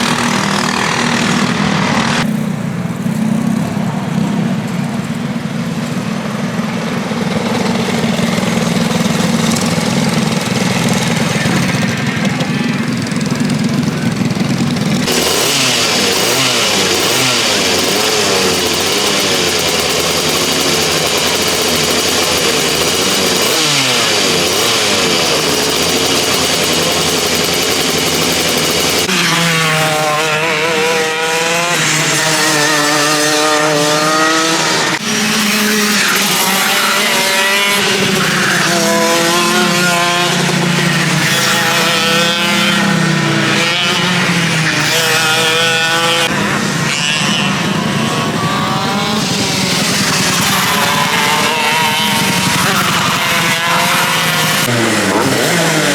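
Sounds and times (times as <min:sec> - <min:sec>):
go-kart engines buzzing: 0:00.0 - 0:55.9.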